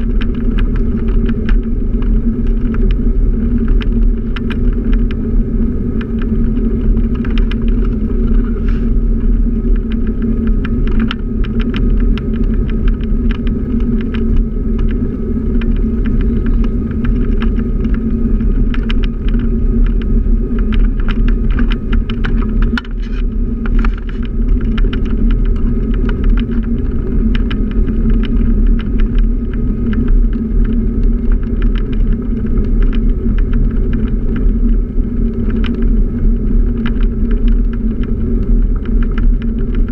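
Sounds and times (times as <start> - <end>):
scooter engine rumble: 0.0 - 39.9
small rattles and clicks: 0.0 - 39.9.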